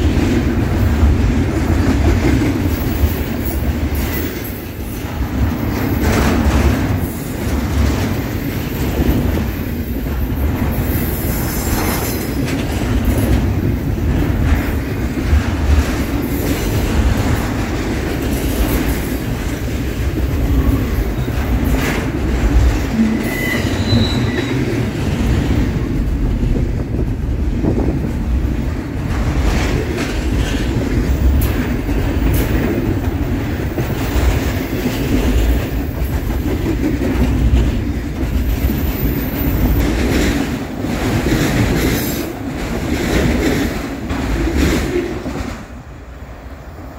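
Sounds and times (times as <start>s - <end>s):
wheels clicking over rail joints: 0.0s - 45.8s
freight train wheels rumbling: 0.0s - 46.9s.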